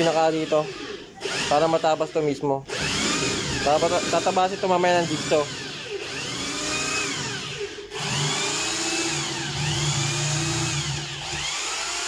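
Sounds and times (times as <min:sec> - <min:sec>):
electric drill boring through plywood: 0:00.0 - 0:12.0.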